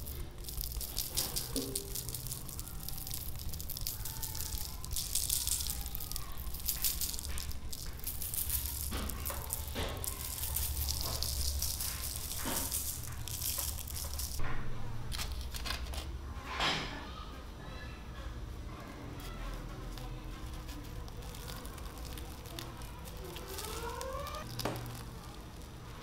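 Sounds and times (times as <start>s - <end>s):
sugar grains pattering on paper: 0.0s - 14.4s, 15.1s - 16.2s, 18.9s - 26.0s.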